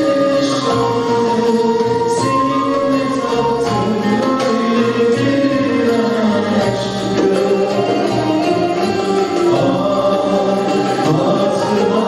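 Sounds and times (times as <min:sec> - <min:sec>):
choir singing: 0:00.0 - 0:12.0
man singing solo: 0:00.0 - 0:12.0
plucked lute ensemble: 0:00.0 - 0:12.0.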